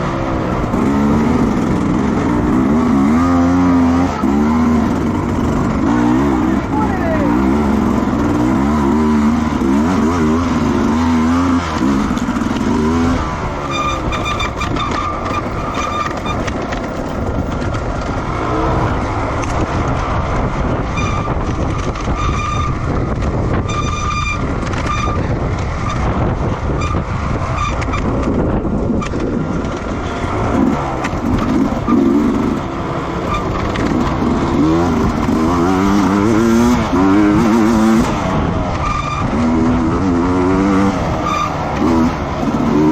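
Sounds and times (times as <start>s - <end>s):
racing motorcycles passing: 0.0s - 42.9s.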